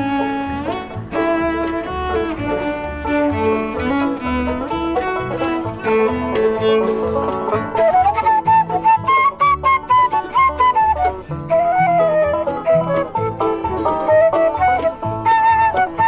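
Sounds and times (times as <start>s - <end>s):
bowed cello: 0.0s - 16.0s
flute melody: 0.0s - 16.0s
plucked banjo: 0.0s - 16.0s
strummed acoustic guitar: 0.0s - 16.0s.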